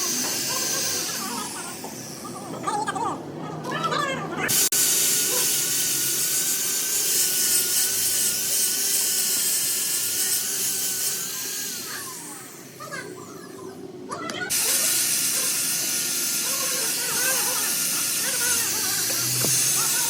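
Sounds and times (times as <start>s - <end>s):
power tool whining: 0.0s - 2.5s, 4.4s - 13.2s, 14.5s - 20.0s.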